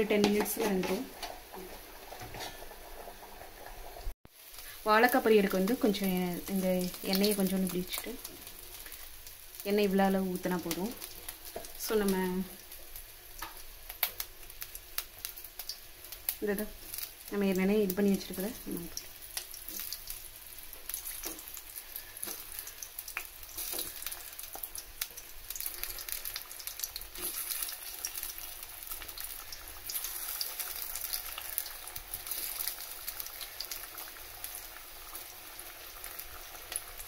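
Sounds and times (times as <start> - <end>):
banana slices sizzling in oil: 0.0 - 37.0.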